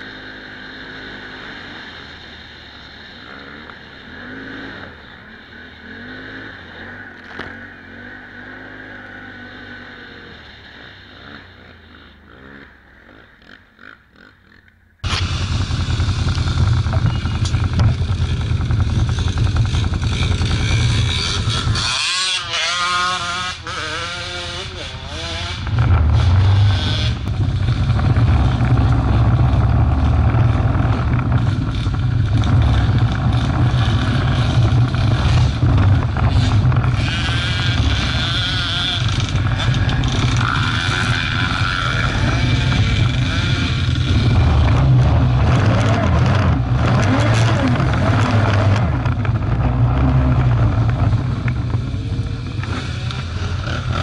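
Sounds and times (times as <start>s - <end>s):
quad bike engines revving: 0.0s - 54.0s.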